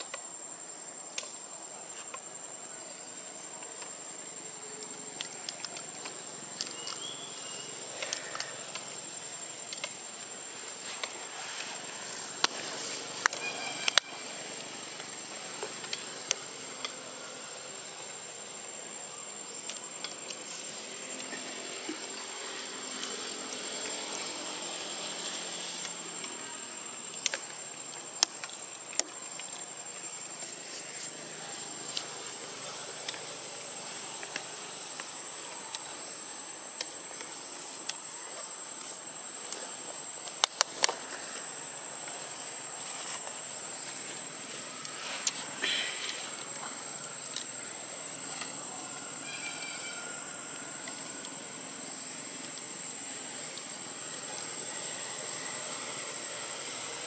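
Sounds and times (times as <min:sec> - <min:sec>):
faint hiss: 0:00.0 - 0:57.0
high-pitched insect drone: 0:00.0 - 0:57.0.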